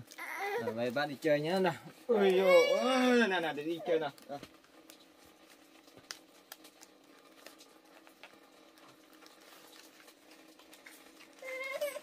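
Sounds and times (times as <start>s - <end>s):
faint steady hum: 0.0s - 12.0s
leaves crinkling and clicking: 2.2s - 12.0s.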